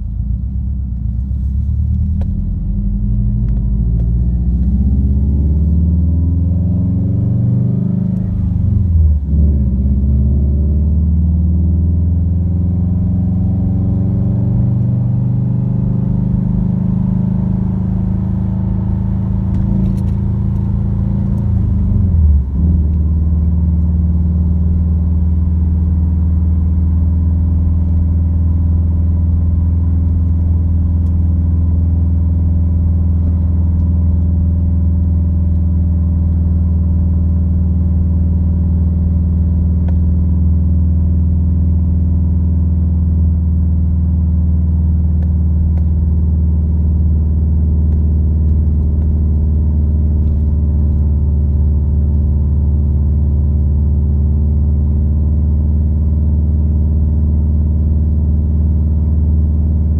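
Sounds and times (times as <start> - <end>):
car engine droning in cabin: 0.0 - 59.9.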